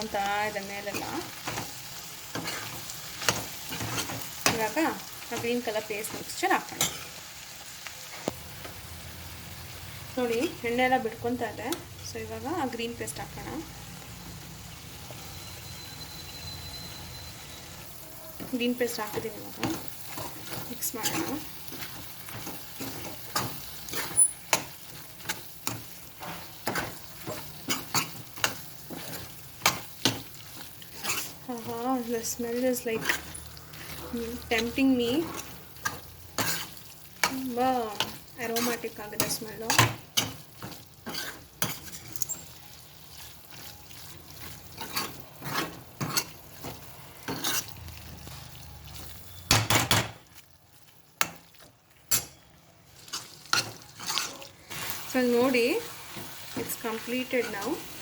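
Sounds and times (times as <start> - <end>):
spoon scraping a pan: 0.0 - 7.3, 15.0 - 58.0
vegetables sizzling in oil: 0.0 - 58.0.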